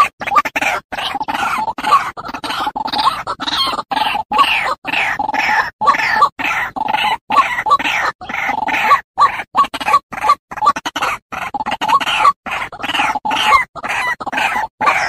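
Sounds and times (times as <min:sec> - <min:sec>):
harsh bird calls: 0:00.0 - 0:15.0.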